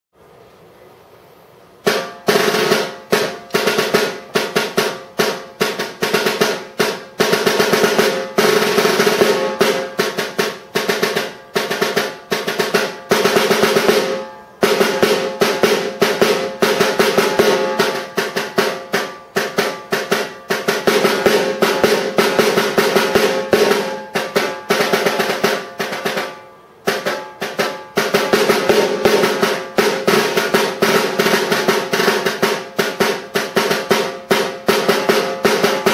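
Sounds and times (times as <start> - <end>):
snare drum rolls: 1.8 - 35.9.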